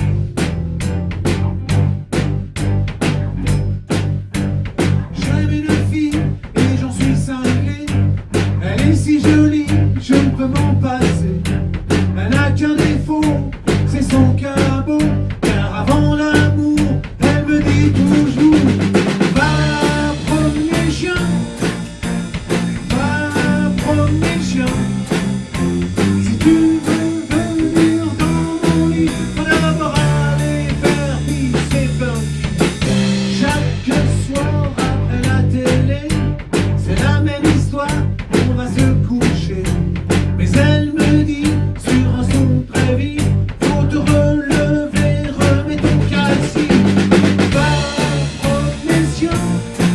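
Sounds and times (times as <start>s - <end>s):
band playing upbeat instrumental: 0.0s - 49.9s
drum kit beat: 0.0s - 49.9s.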